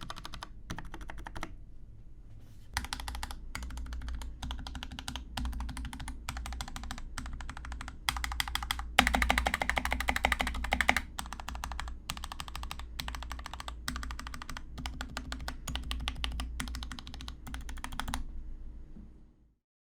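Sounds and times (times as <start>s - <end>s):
mechanical keyboard typing: 0.0s - 1.5s, 2.8s - 18.2s.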